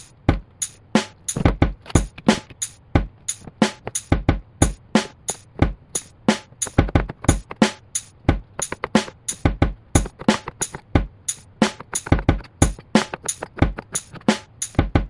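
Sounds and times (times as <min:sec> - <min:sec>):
music with busy drum beat: 0:00.0 - 0:15.0.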